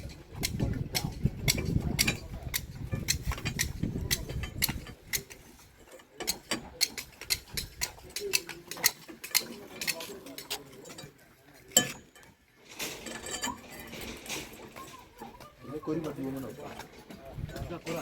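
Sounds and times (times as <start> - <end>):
sharp metallic clicks and clinks: 0.0 - 15.0.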